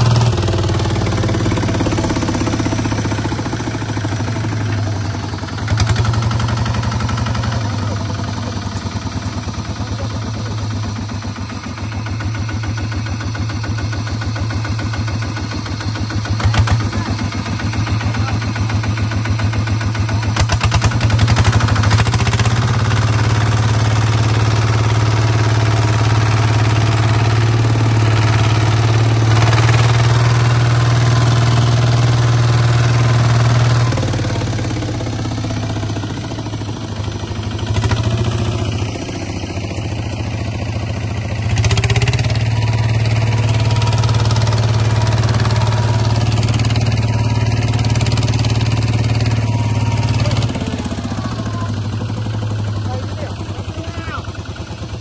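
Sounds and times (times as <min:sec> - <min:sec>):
bulldozer engine running: 0:00.0 - 0:55.0.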